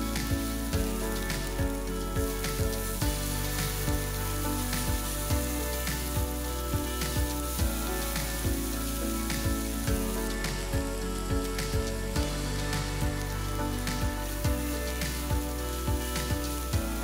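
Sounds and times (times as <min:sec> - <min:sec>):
background music with steady beat: 0:00.0 - 0:17.0
vegetables sizzling in oil: 0:00.0 - 0:17.0.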